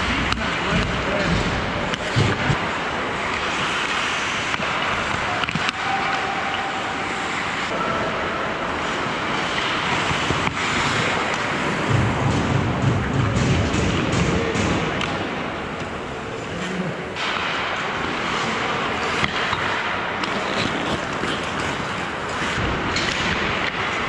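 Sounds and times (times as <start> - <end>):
skates scraping on ice: 0.0 - 14.2, 14.8 - 24.0
hockey sticks and puck clacking: 0.0 - 24.0.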